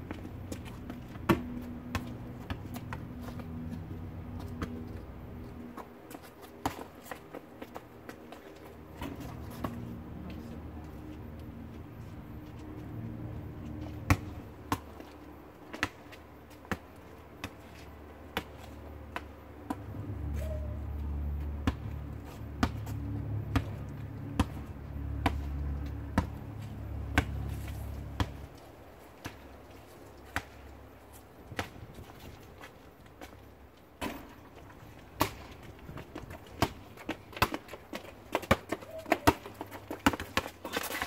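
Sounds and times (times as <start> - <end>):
basketball bouncing on asphalt: 0.0 - 10.4, 12.4 - 41.0.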